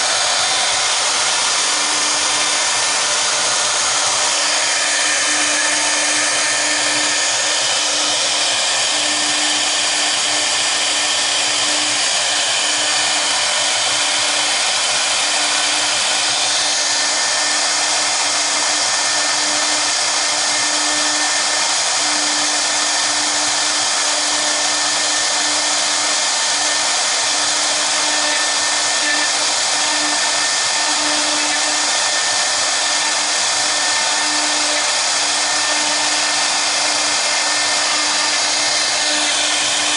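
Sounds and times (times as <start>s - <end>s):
cnc router spindles whining: 0.0s - 39.9s
hiss of bits cutting wood: 0.0s - 39.9s.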